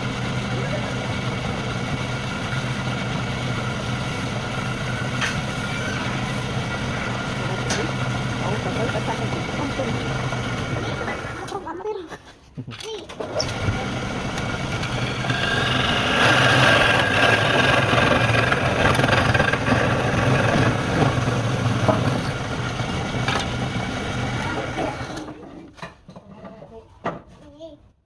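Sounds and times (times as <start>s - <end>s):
tool cutting spinning wood: 0.0s - 11.6s, 13.2s - 25.5s
wood lathe motor humming: 0.0s - 11.6s, 13.2s - 25.4s.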